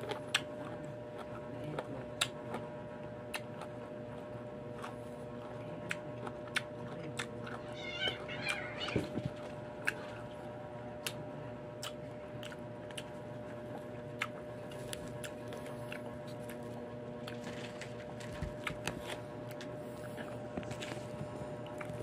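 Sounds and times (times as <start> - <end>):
faint steady hum: 0.0 - 22.0
person chewing crunchy fruit: 0.0 - 22.0.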